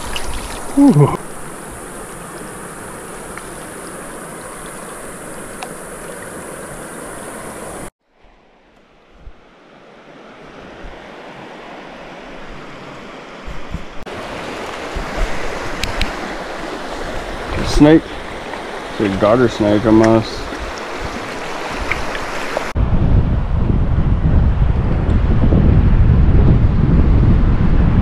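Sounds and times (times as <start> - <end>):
river current rushing: 0.0 - 22.8.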